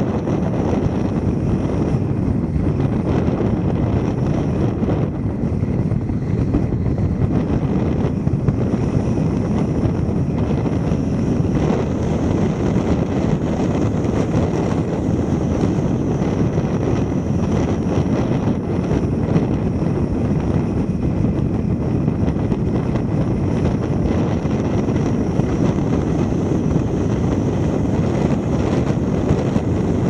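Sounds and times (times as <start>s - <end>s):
car driving on paved road: 0.0s - 30.0s
wind buffeting microphone: 0.0s - 30.0s.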